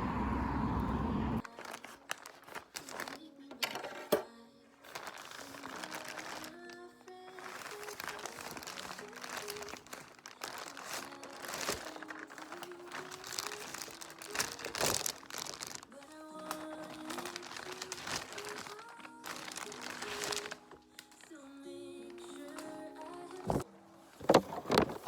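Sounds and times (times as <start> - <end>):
dense continuous crackling: 0.0 - 3.6, 4.7 - 25.0
soft melodic background music: 1.4 - 25.0.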